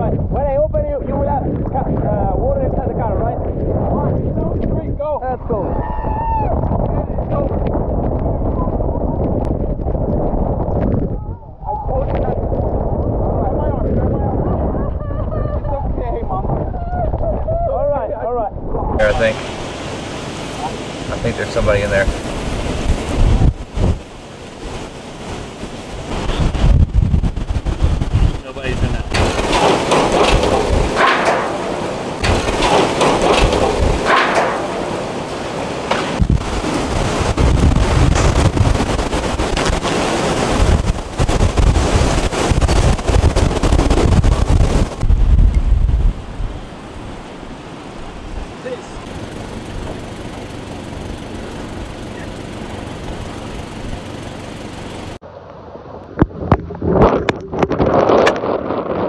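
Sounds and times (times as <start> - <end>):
gusting wind and heavy rain: 0.0 - 59.0.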